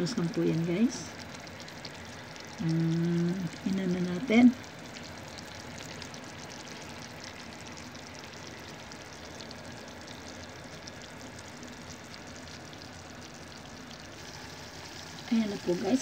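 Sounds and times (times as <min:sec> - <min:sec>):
small bubbles ticking: 0:00.0 - 0:16.0
water heating hiss: 0:00.0 - 0:16.0.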